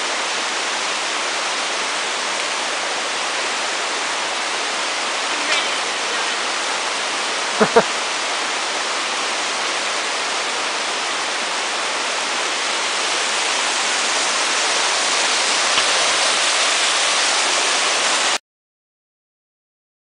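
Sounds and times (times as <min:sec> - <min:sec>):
stream rushing over rock: 0:00.0 - 0:18.4.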